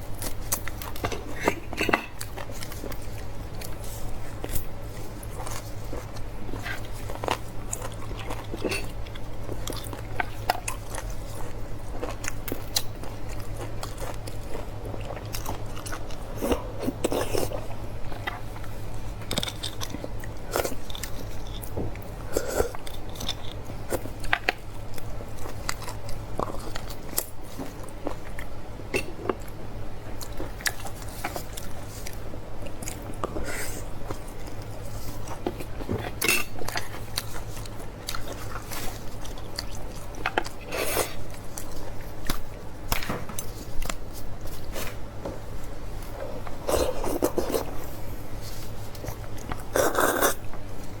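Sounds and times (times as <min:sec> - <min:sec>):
people chewing bones: 0:00.0 - 0:51.0.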